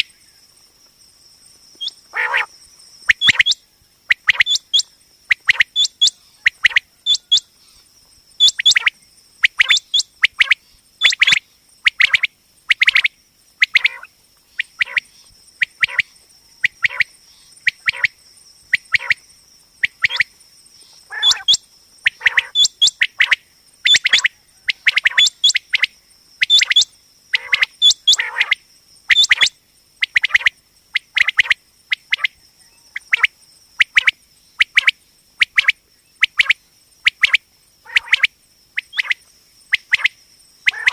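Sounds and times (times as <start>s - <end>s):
quail calling: 1.8s - 2.5s, 3.1s - 7.5s, 8.4s - 15.1s, 15.7s - 18.2s, 18.8s - 19.2s, 19.8s - 20.3s, 21.0s - 30.5s, 31.1s - 40.9s.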